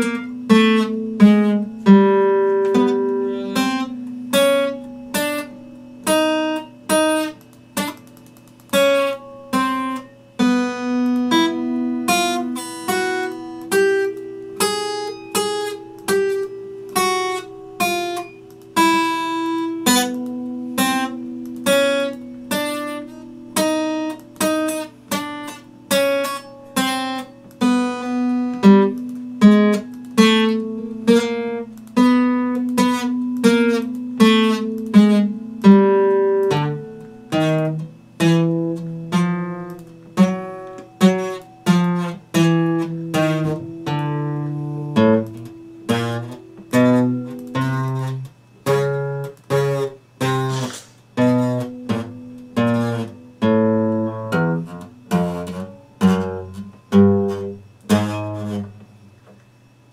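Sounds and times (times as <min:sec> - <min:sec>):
acoustic guitar notes and chords: 0:00.0 - 0:59.9.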